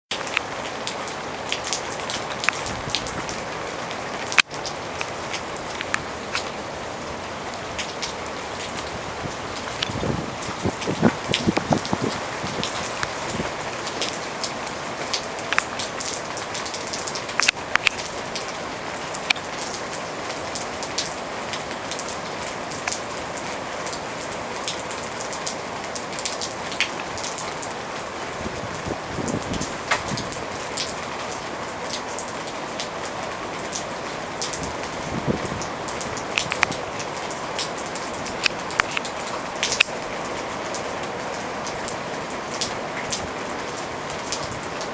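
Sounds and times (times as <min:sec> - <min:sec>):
heavy rain: 0:00.1 - 0:44.9
raindrops hitting a surface: 0:00.1 - 0:44.9.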